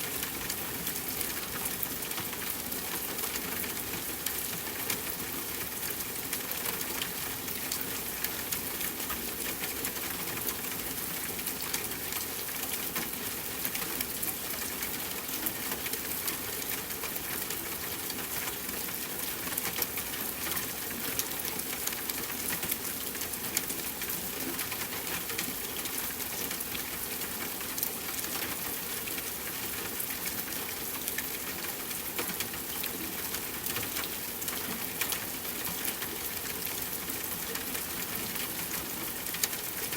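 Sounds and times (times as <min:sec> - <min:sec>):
rain hissing with drop ticks: 0:00.1 - 0:39.9.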